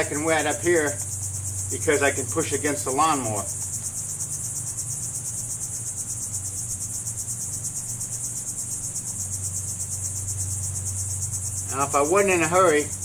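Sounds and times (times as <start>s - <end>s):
insects chorus pulsing: 0.0s - 13.0s
low steady hum: 0.0s - 13.0s.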